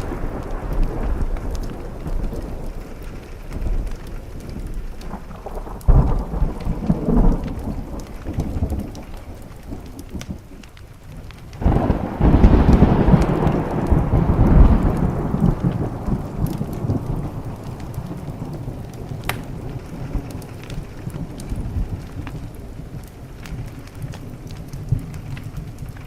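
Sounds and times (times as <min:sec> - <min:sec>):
steady rain: 0:00.0 - 0:26.0
thunder clap and rumble: 0:00.0 - 0:26.0.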